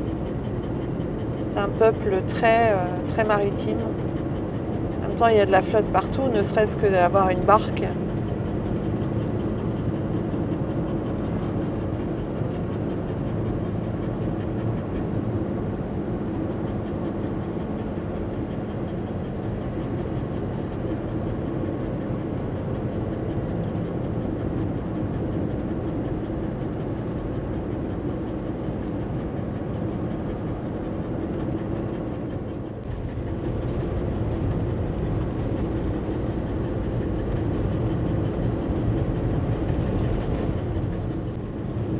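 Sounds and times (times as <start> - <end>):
engine drone: 0.0 - 41.9
road noise: 0.0 - 41.9.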